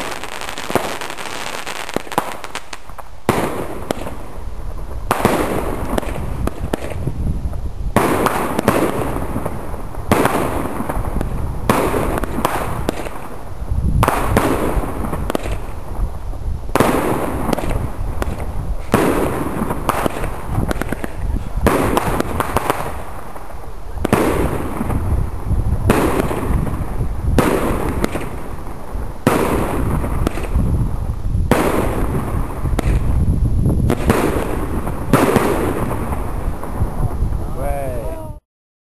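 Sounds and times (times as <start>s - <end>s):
fireworks bangs: 0.0s - 37.8s.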